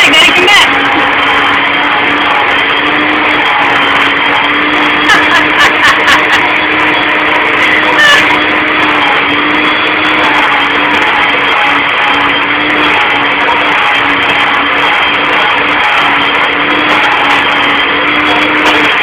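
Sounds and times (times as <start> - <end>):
electric grooming tool whirring: 0.0 - 19.0.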